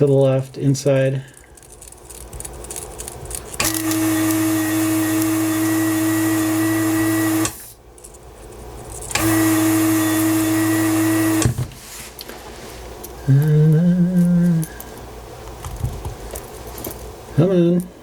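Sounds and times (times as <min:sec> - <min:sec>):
desoldering vacuum pump humming: 0:00.0 - 0:18.0.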